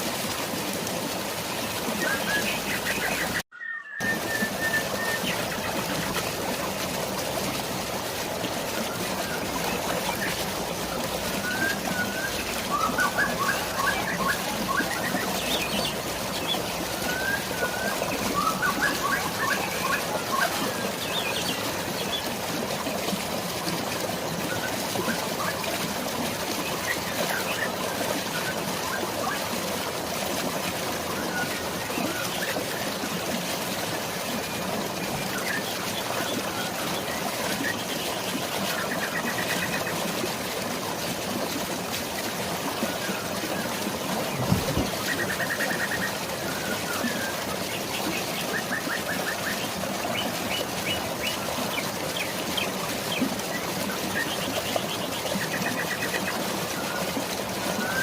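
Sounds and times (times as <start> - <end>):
falling water rushing: 0.0 - 58.0.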